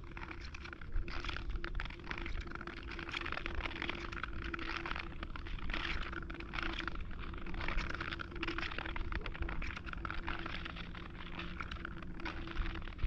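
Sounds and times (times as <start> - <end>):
faint steady hum: 0.0 - 13.0
wind rumbling on microphone: 0.0 - 13.0.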